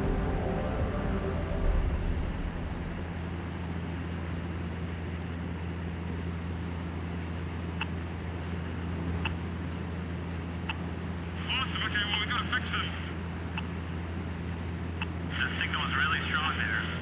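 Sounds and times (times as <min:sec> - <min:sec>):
aircraft engine and propeller droning: 0:00.0 - 0:17.0.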